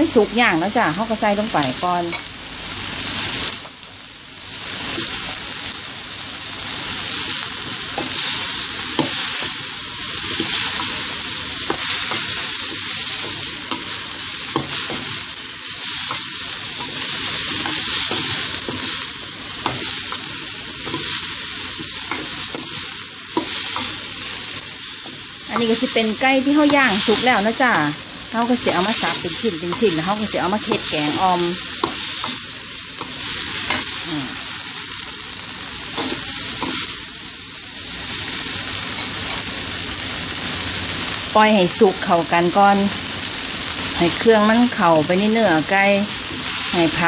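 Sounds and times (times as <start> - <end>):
food sizzling in a wok: 0.0 - 47.0.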